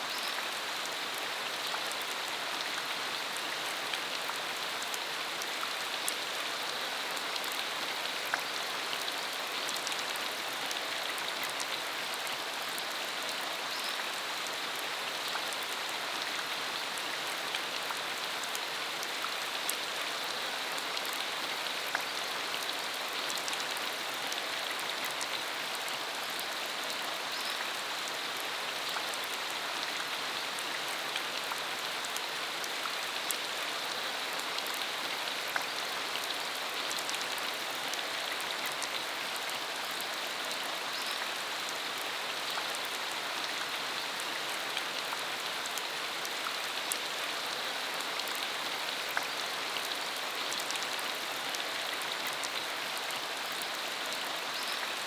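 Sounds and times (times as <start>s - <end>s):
rain on dirt road: 0.0s - 55.0s.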